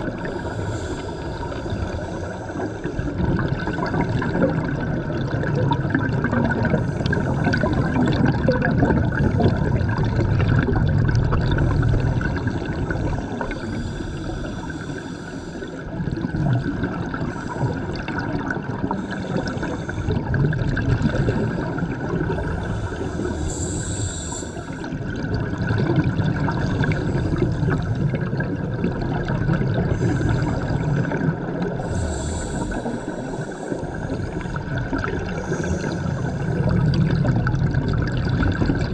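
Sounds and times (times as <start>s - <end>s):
underwater regulator bubbles gurgling: 0.0s - 38.9s.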